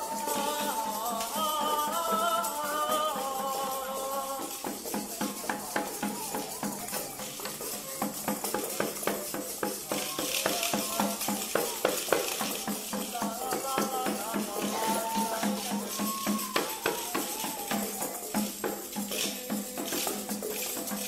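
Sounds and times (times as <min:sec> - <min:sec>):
rattle shaking: 0:00.0 - 0:21.0.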